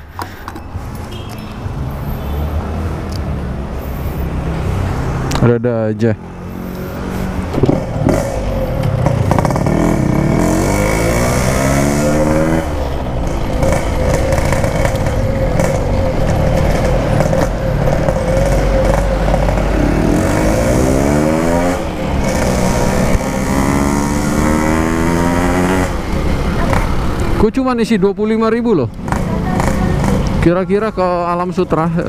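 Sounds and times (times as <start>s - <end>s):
two-stroke motorcycle accelerating: 4.3s - 32.0s.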